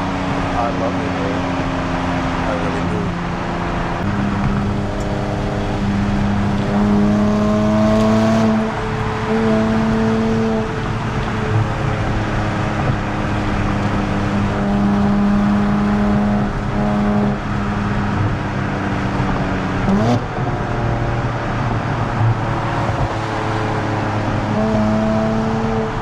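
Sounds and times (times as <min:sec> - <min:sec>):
car engine cruising: 0:00.0 - 0:26.0
road and tyre noise: 0:00.0 - 0:26.0.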